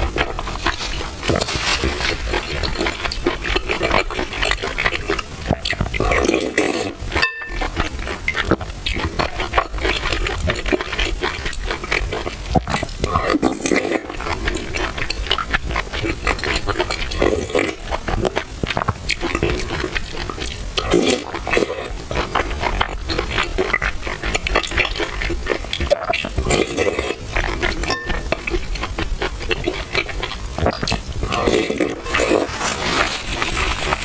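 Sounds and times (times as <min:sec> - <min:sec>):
wet chewing and slurping: 0:00.0 - 0:34.0.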